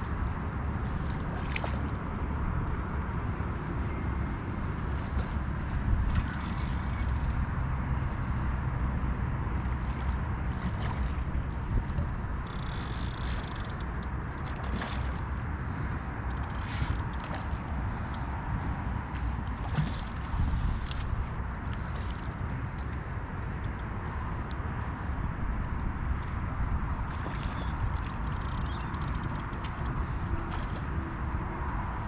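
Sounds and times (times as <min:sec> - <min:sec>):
wind rumbling on microphone: 0:00.0 - 0:32.0.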